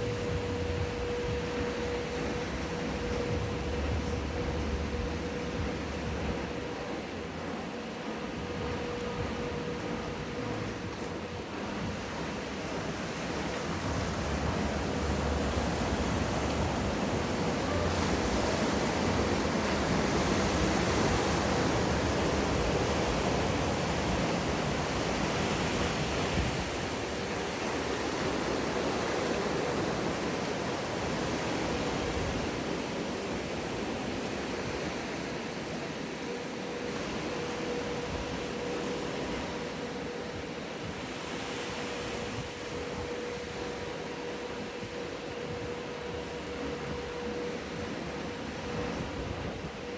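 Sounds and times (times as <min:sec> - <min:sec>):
faint steady hum: 0:00.0 - 0:49.9
wave breaking and rushing whitewater: 0:00.0 - 0:49.9.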